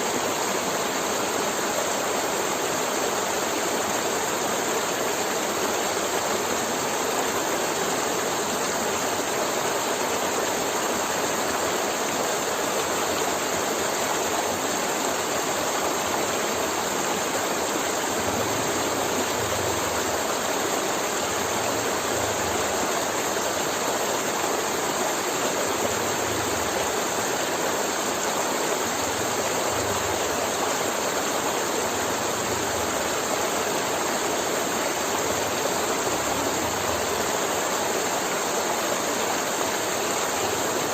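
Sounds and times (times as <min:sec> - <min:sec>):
river gurgling over rocks: 0:00.0 - 0:40.9.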